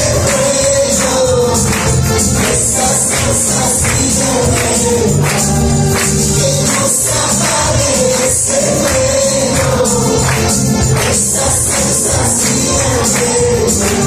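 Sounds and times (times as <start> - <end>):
bass notes: 0.0 - 14.0
group of voices singing: 0.0 - 14.0.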